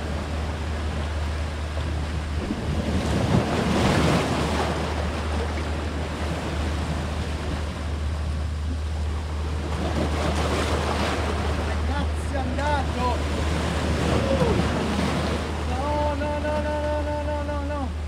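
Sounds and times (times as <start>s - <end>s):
surf washing against rocks: 0.0s - 18.0s
wind rumble on microphone: 0.0s - 18.0s.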